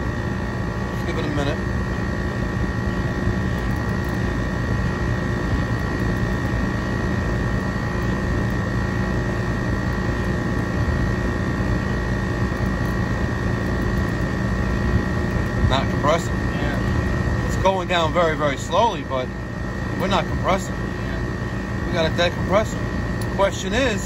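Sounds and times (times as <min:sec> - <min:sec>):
air conditioner unit humming: 0:00.0 - 0:24.0
high-pitched whine: 0:00.0 - 0:24.0.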